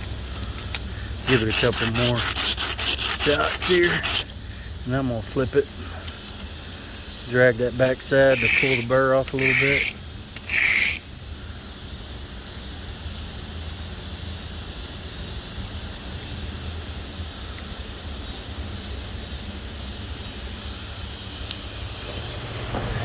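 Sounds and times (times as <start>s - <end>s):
background hiss: 0.0s - 22.8s
low mechanical hum: 0.0s - 23.0s.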